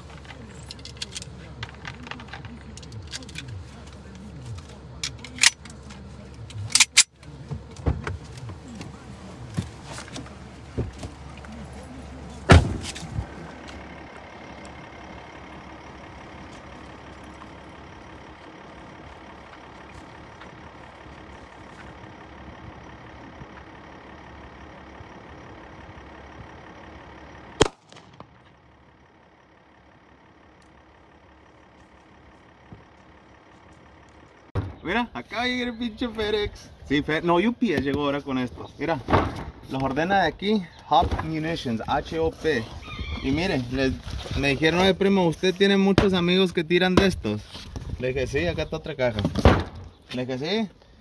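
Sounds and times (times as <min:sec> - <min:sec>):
low rumbling noise: 0:00.0 - 0:45.1.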